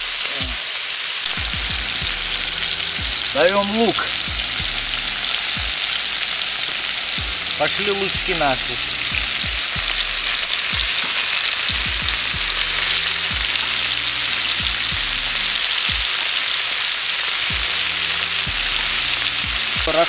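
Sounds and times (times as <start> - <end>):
chicken and onion sizzling in oil: 0.0 - 20.0.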